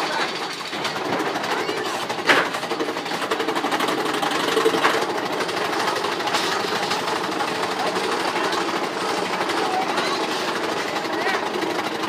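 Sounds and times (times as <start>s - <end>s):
roller coaster cars rattling: 0.0s - 12.0s.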